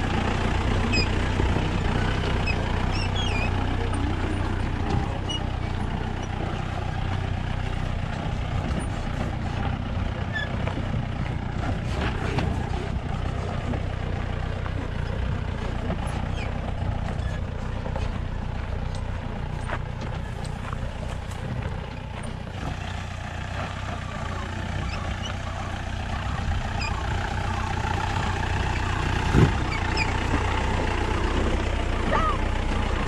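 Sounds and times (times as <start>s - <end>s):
vehicle engine running at low revs: 0.0s - 33.0s.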